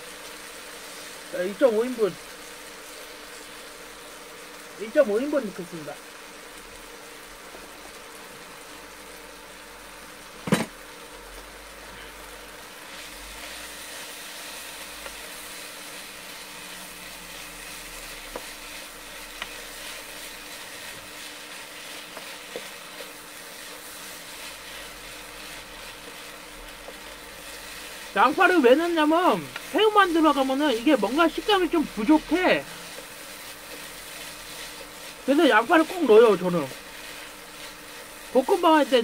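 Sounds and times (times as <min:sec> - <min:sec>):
rice sizzling in a frying pan: 0:00.0 - 0:39.0.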